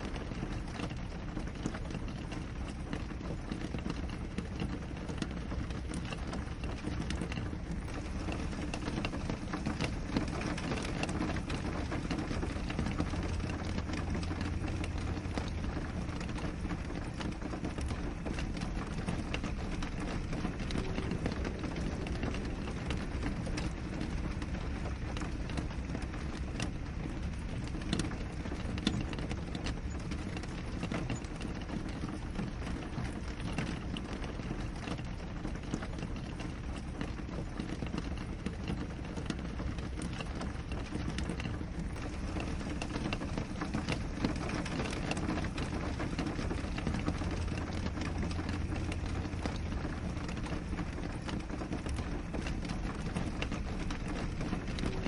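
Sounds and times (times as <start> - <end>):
raindrops tapping on window glass: 0.0 - 55.0.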